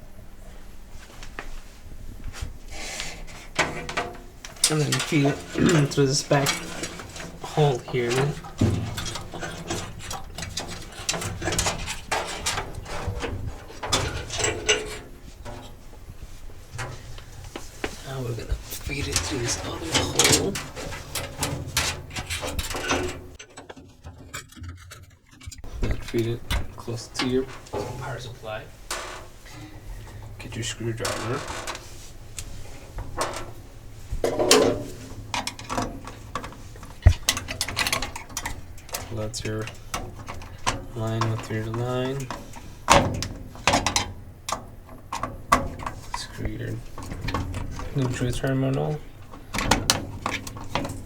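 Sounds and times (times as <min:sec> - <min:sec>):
cable scraping against metal: 0:02.7 - 0:51.0.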